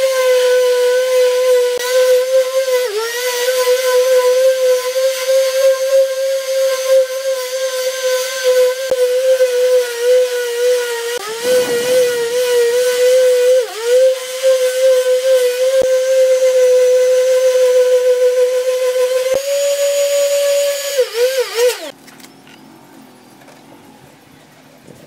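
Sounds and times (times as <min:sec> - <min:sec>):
orbital sander motor hum: 0:00.0 - 0:22.0.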